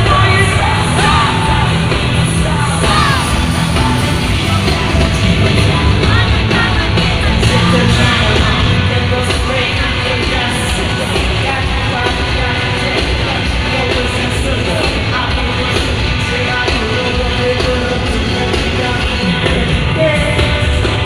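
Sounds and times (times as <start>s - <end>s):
live pop-rap music over pa: 0.0s - 21.0s
man singing: 0.0s - 21.0s.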